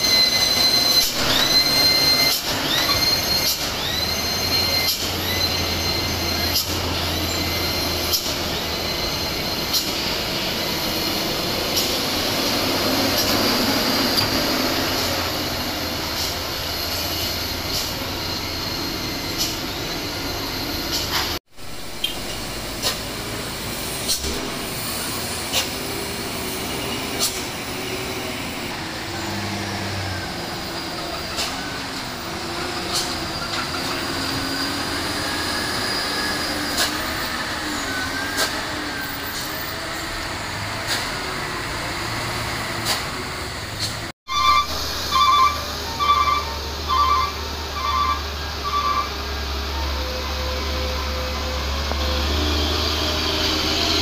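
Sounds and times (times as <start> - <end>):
traffic noise: 0.0 - 54.0
truck diesel engines rumbling: 0.0 - 54.0.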